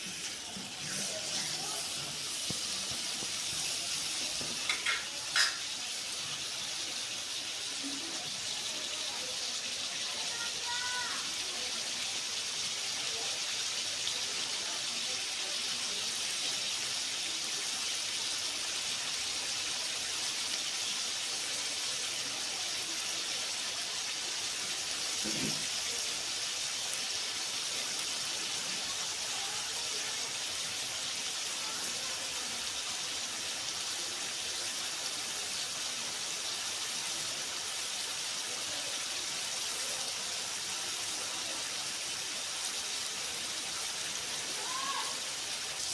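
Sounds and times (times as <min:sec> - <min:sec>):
food sizzling: 0:00.0 - 0:45.9.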